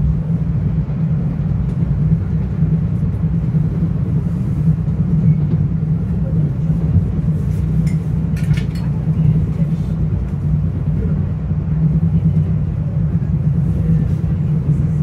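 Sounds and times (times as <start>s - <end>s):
train rumbling inside passenger car: 0.0s - 15.0s.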